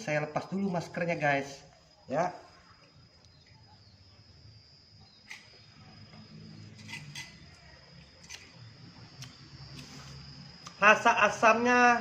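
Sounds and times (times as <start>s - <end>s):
thin high-pitched whine: 0.0s - 12.0s.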